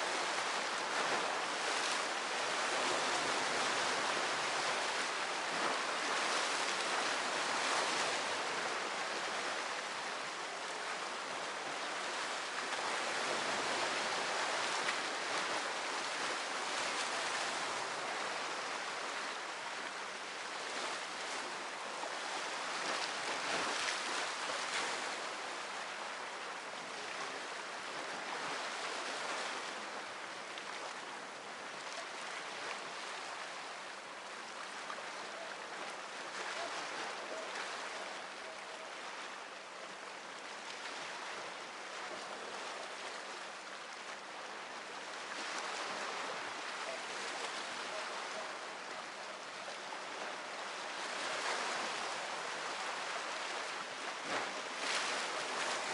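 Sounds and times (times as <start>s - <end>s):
waves breaking on shore: 0.0s - 55.9s.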